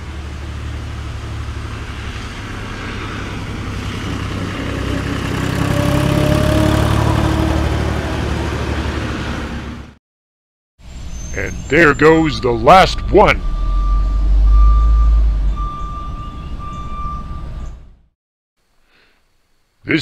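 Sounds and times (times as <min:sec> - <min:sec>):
heavy vehicle engine humming: 0:00.0 - 0:10.0, 0:10.8 - 0:18.1.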